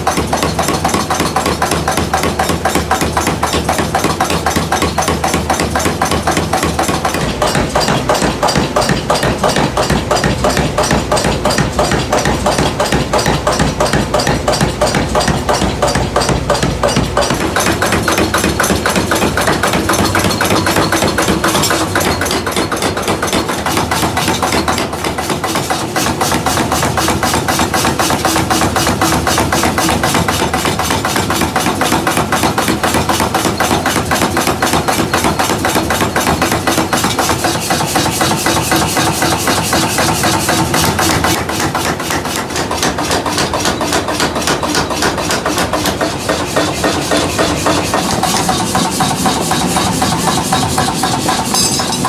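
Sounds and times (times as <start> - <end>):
hammering on hot steel: 0.0 - 52.0.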